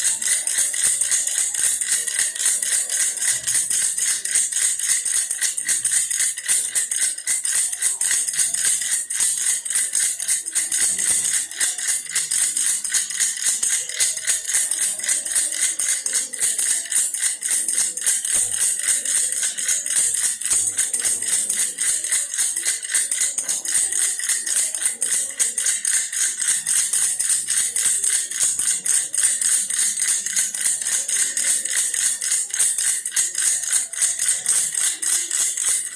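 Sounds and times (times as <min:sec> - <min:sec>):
baby rattle shaking: 0:00.0 - 0:35.9.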